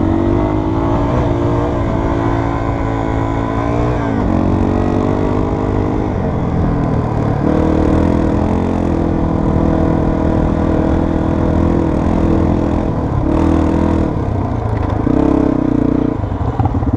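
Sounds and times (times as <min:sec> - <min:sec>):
trail bike engine under throttle: 0:00.0 - 0:16.9.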